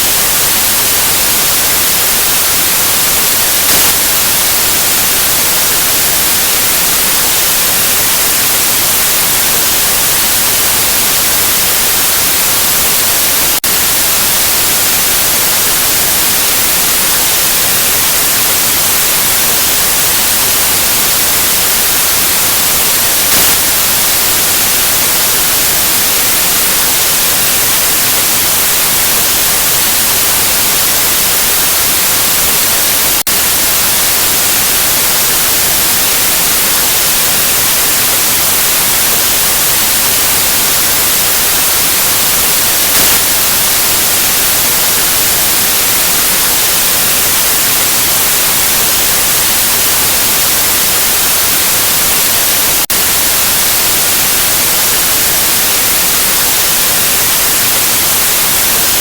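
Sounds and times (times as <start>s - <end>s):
loud white noise hiss: 0.0s - 59.0s.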